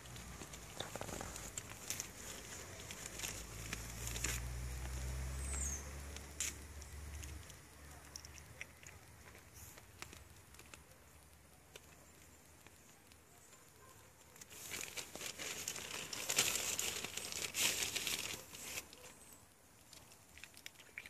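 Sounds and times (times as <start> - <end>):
deer crunching acorns: 0.0 - 21.0.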